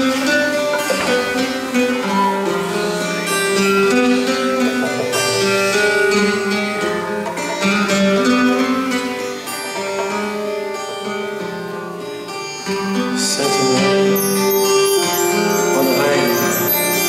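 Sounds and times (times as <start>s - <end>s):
amplified bouzouki playing: 0.0s - 17.0s.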